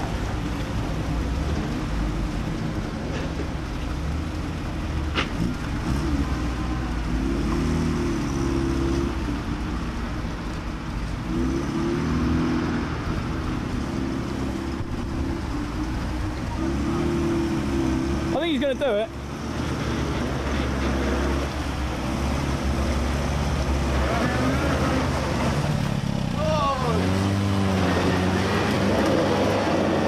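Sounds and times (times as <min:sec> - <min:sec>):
engine revving under load: 0:04.6 - 0:10.0, 0:11.1 - 0:30.0.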